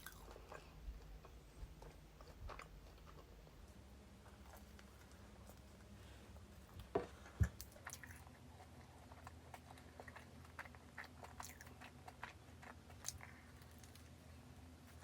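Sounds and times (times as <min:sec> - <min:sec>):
person chewing crisp pastry: 0:00.0 - 0:15.0.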